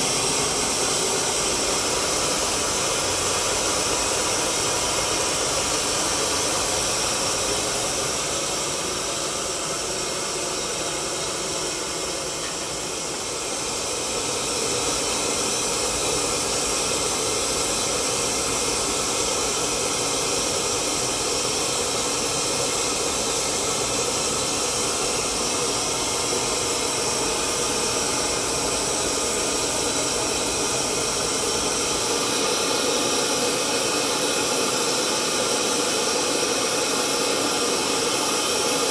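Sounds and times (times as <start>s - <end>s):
gas burner flame hissing: 0.0s - 38.9s.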